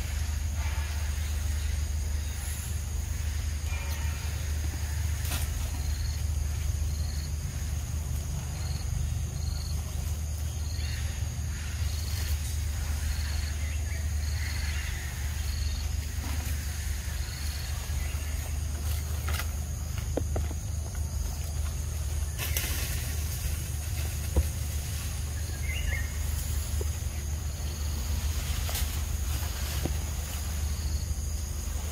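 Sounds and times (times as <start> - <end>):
insects chirping and buzzing: 0.0 - 31.9
steady low rumble: 0.0 - 31.9.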